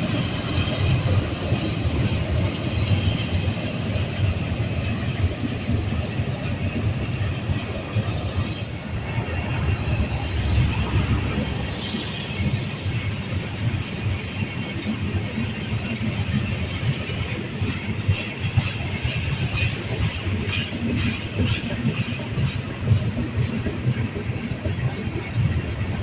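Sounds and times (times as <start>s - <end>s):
train cars rumbling on rails: 0.0s - 26.0s.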